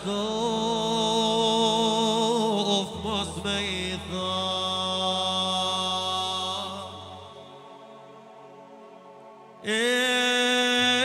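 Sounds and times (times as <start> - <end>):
man singing devotional song: 0.0 - 7.8, 9.6 - 11.0
low drone accompaniment: 0.0 - 11.0.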